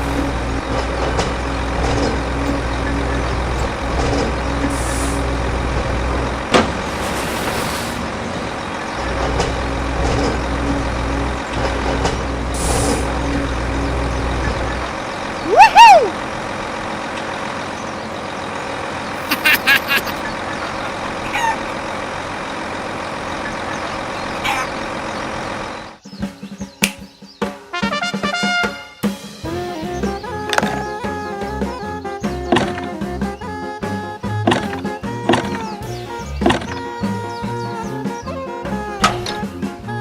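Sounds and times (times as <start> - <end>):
truck engine rumbling: 0.0 - 26.7, 29.2 - 40.0.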